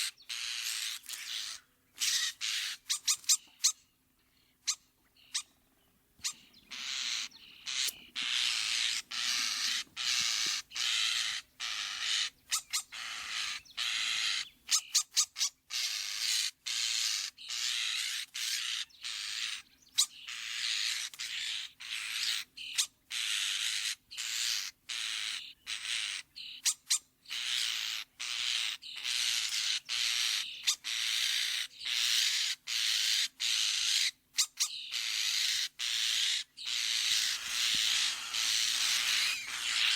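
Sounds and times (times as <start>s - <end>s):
starling harsh rasping calls: 0.0s - 3.8s, 6.2s - 39.9s.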